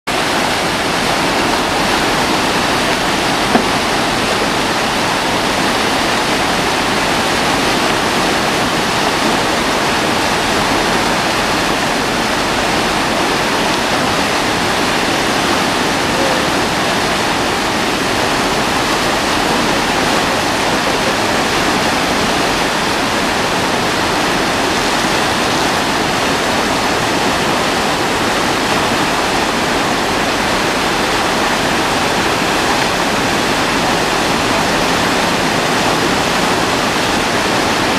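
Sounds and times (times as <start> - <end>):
whitewater rapids rushing: 0.1 - 37.9.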